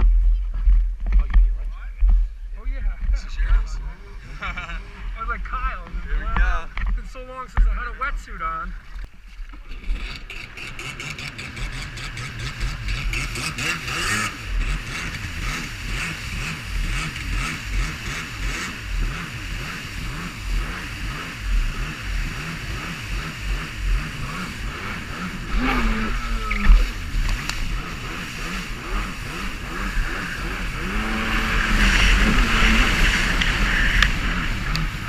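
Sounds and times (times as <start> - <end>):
jet ski engine: 3.0 - 8.1, 8.7 - 35.0.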